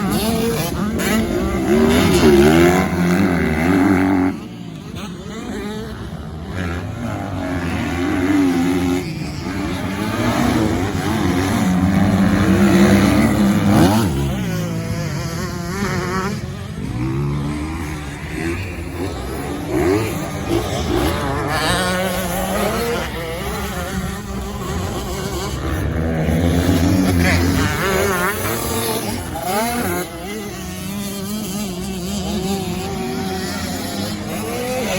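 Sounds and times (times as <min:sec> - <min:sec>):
motocross bike engines revving: 0:00.0 - 0:34.9.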